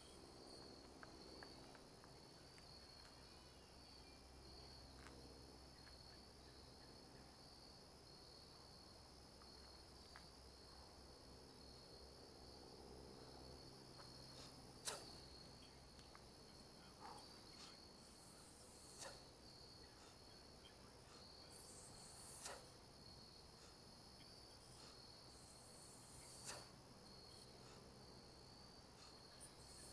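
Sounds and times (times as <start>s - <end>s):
crickets chirping: 0.0s - 29.9s.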